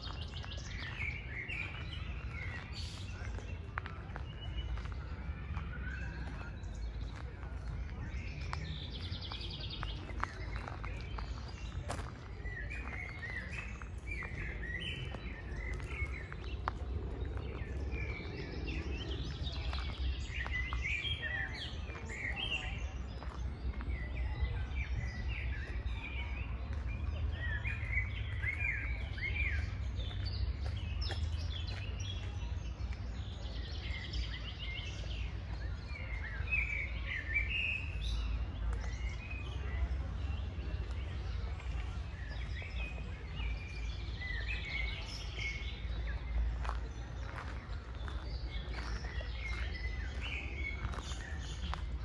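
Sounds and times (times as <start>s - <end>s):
birds chirping and singing: 0.0s - 52.0s.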